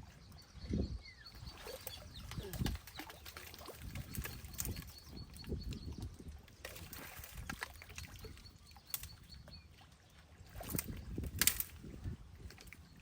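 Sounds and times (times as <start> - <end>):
water sloshing and splashing: 1.3 - 13.0.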